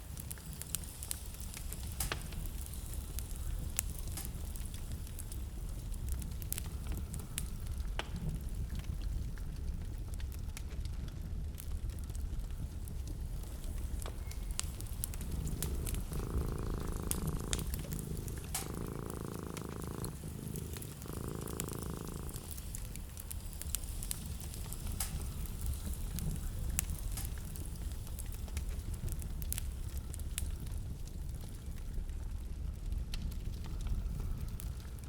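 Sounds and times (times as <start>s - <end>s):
low fire rumble: 0.0s - 35.0s
purr-like hum: 0.0s - 35.0s
wood fire crackling: 0.0s - 35.0s.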